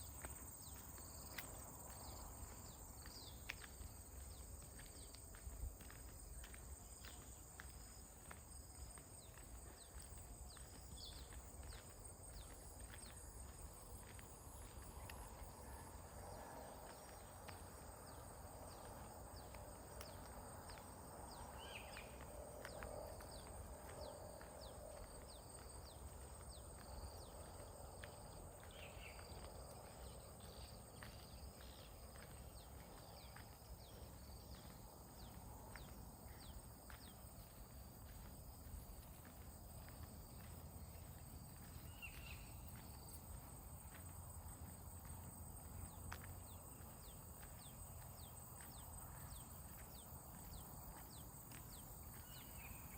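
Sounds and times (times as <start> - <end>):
insect drone: 0.0 - 52.9.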